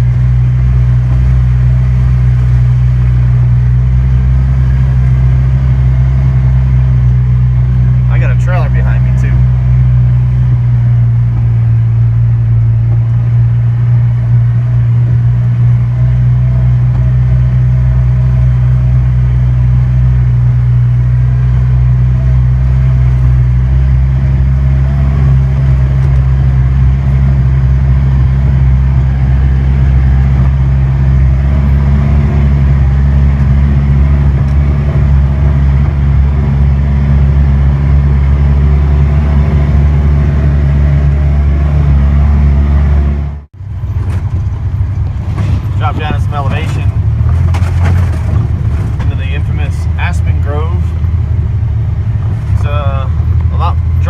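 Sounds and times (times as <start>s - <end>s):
utility vehicle engine drone: 0.0s - 54.0s.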